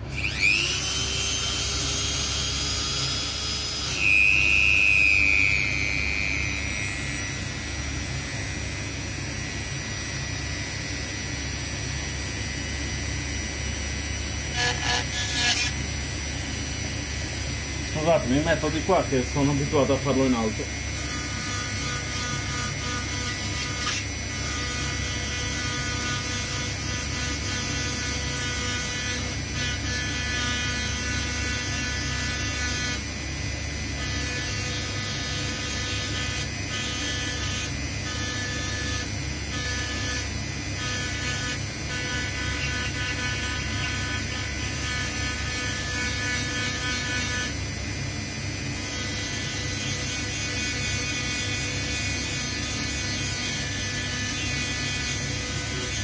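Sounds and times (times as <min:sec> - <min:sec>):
rotary tool engraving metal: 0:00.1 - 0:08.0, 0:14.3 - 0:15.8, 0:17.9 - 0:47.8, 0:48.7 - 0:56.0.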